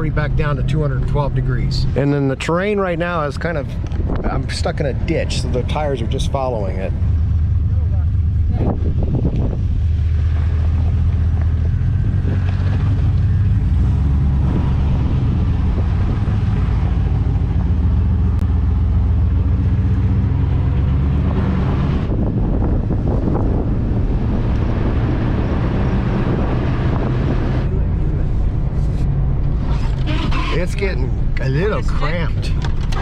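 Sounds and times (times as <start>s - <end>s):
truck engine at low revs: 0.0s - 33.0s.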